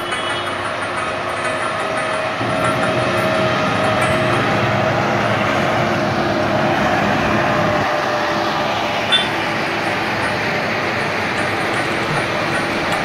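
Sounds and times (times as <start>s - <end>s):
road noise: 0.0s - 13.0s
truck engine driving past: 0.7s - 13.0s.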